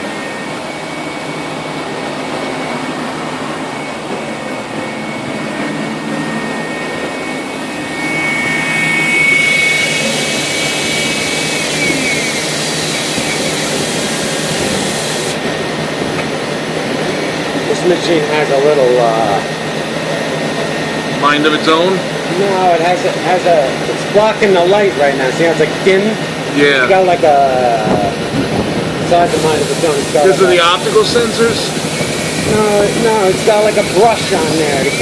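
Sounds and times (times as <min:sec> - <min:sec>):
machine whirring hiss and whine: 0:00.0 - 0:35.0.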